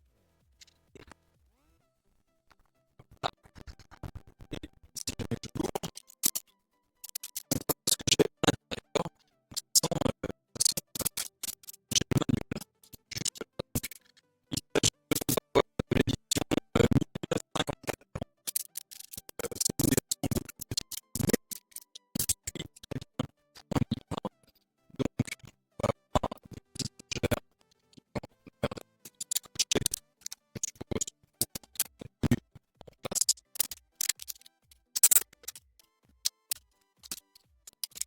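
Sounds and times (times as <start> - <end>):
choppy clicky percussive music: 0.4 - 1.2, 2.4 - 38.0.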